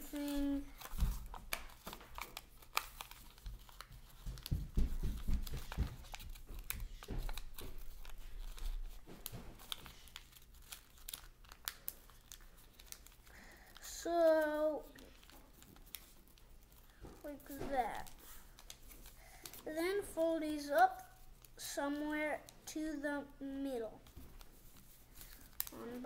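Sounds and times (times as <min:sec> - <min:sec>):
paper crinkling and rustling: 0:00.0 - 0:23.0, 0:23.8 - 0:26.0.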